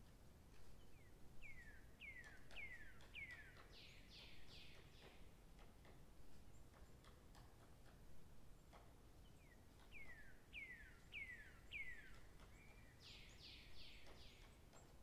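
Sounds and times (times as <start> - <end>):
small bird singing: 0.6 - 15.0.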